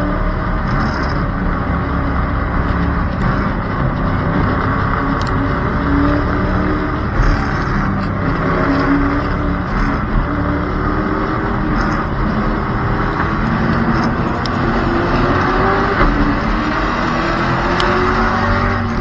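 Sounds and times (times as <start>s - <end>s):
rush of noise: 0.0s - 19.0s
stock car engines droning: 0.0s - 19.0s.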